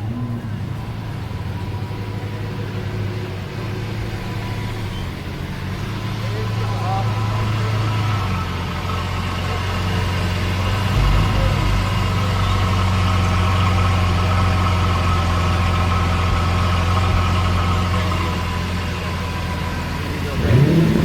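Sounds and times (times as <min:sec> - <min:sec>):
car engine running steadily: 0:00.0 - 0:21.0.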